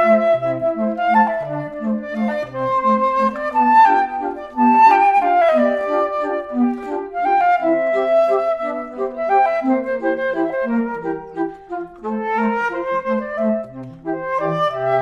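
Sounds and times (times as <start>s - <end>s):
woodwind-like lead melody: 0.0s - 15.0s.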